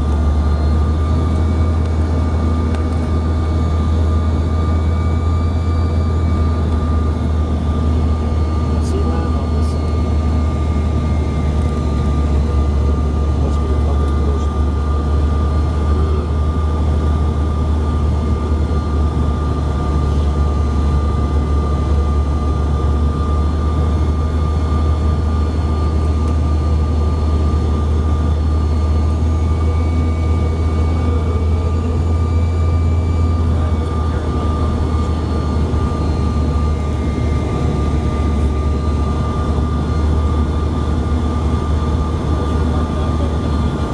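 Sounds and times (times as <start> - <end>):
high engine whine: 0.0 - 43.9
jet cabin rumble: 0.0 - 43.9.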